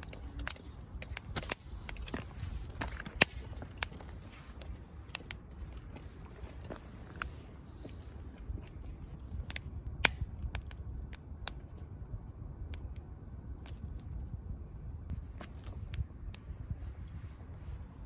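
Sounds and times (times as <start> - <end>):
campfire crackling: 0.0 - 18.0
low steady rumble: 0.0 - 18.0.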